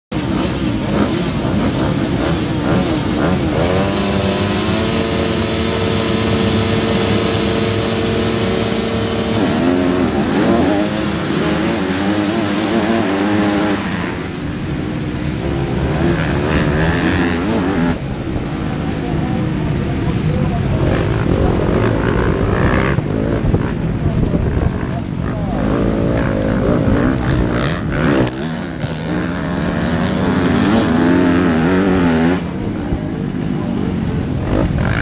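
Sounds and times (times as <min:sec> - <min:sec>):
motocross bike engines revving: 0:00.1 - 0:35.0.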